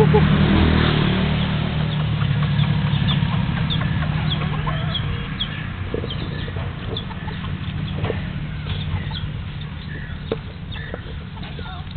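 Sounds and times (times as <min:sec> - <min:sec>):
chickens clucking: 0:00.0 - 0:00.6, 0:01.4 - 0:11.9
low vehicle rumble: 0:00.0 - 0:11.9.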